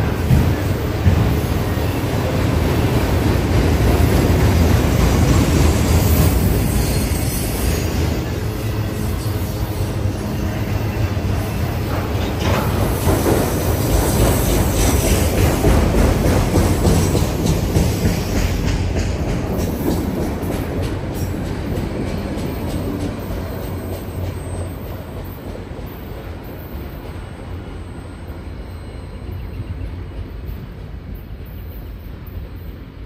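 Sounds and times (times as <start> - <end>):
steel train wheels rumbling on rails: 0.0 - 33.0.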